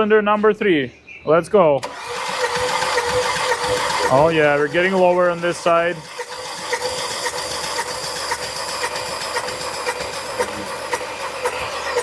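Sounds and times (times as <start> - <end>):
starter cranking engine: 1.8 - 12.0.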